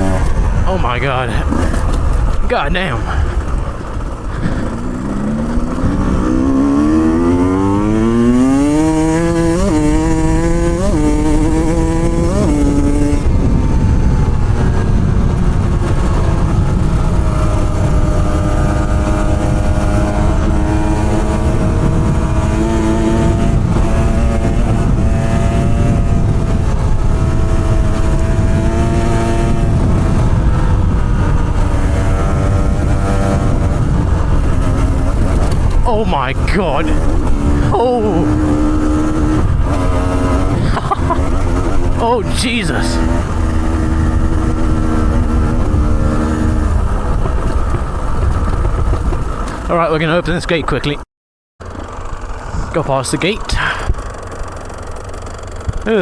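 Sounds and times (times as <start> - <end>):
motorcycle engine accelerating: 0.0 - 50.6, 51.6 - 56.0.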